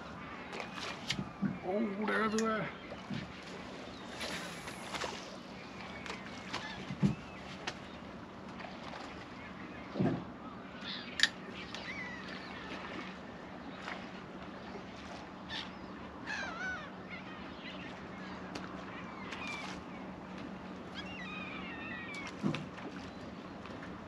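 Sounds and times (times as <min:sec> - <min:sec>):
seabirds calling: 0:00.0 - 0:24.0.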